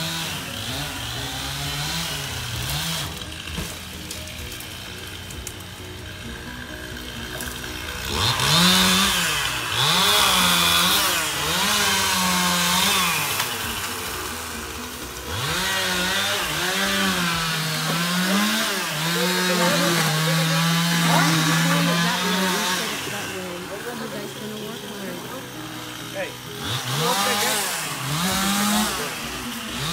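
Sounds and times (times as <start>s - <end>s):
chainsaw engine revving: 0.0s - 29.9s.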